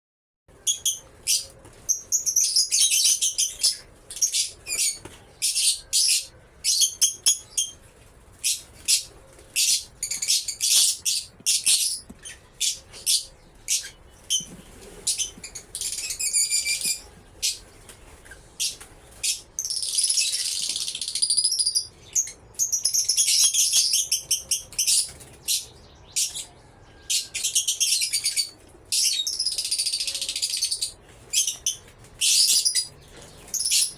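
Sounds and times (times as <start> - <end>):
lovebirds chirping: 0.6 - 33.9.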